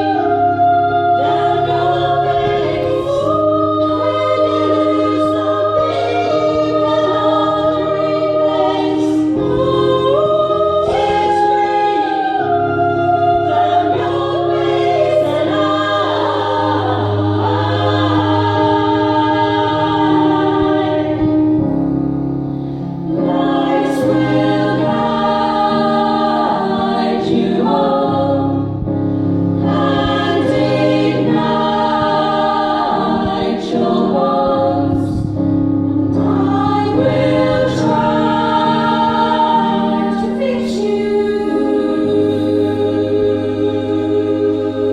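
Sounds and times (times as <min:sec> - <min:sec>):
low accompanying tones: 0:00.0 - 0:44.9
women's choir singing in harmony: 0:00.0 - 0:44.9.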